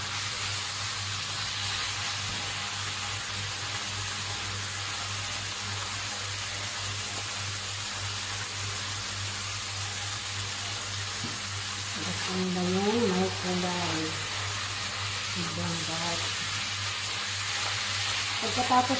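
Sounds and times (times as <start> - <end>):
food sizzling in a wok: 0.0 - 18.9.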